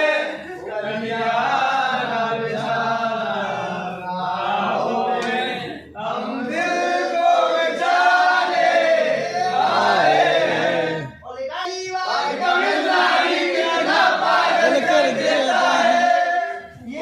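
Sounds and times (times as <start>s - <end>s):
male voices chanting together: 0.0s - 11.2s, 11.9s - 17.0s.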